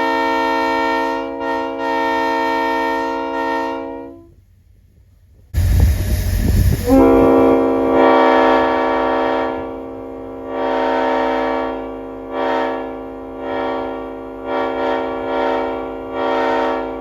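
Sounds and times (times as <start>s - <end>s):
locomotive air horn chord: 0.0s - 4.4s, 5.6s - 17.0s.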